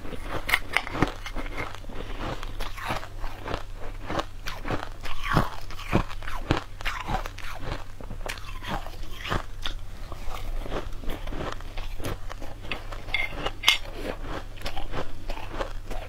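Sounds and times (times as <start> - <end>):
person chewing crushed ice: 0.0 - 16.0.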